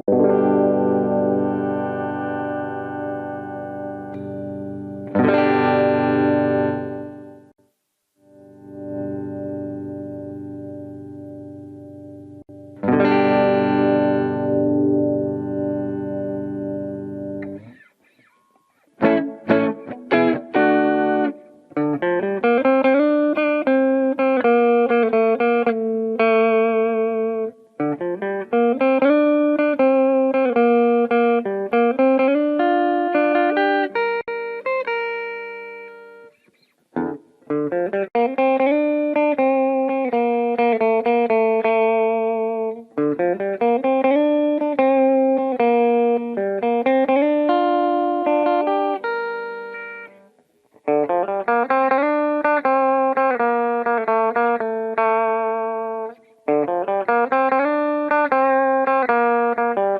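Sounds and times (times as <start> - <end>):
electric guitar notes and chords: 0.0 - 7.6, 8.2 - 59.9.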